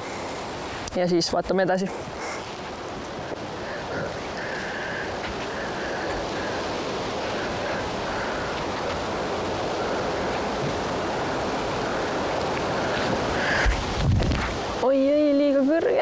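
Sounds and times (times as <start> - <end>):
steady rushing wind: 0.0 - 16.0.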